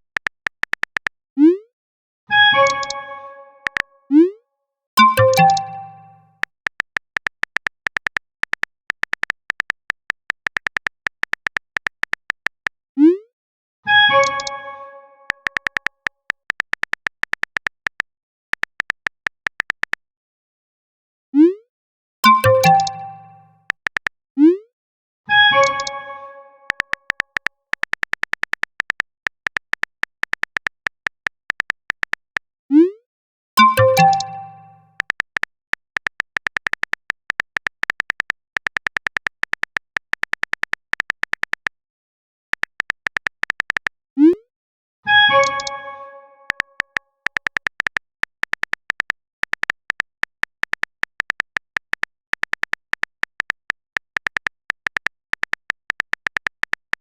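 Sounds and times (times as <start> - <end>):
phone keyboard beep-clicks: 0.0 - 1.2, 2.6 - 3.9, 5.0 - 12.8, 14.1 - 14.7, 15.3 - 20.0, 22.2 - 24.1, 25.5 - 32.4, 33.6 - 41.8, 42.6 - 44.4, 45.2 - 57.0.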